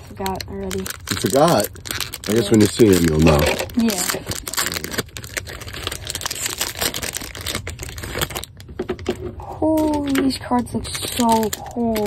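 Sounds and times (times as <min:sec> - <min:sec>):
wrapper crinkling and tearing: 0:00.0 - 0:12.0.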